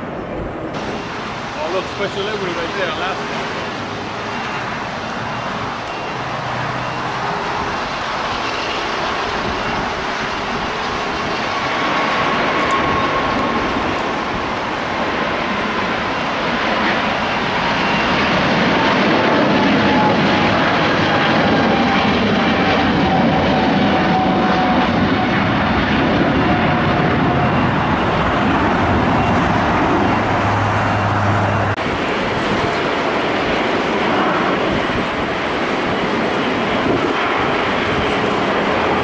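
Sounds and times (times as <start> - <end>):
jet airliner taxiing: 0.0 - 39.0
jet engines at takeoff thrust: 0.0 - 39.0.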